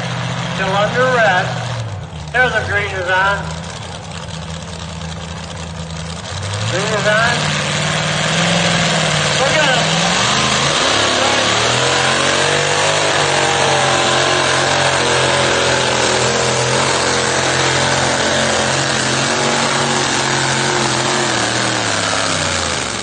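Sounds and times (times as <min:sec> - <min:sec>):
truck engine running flat out: 0:00.0 - 0:23.0.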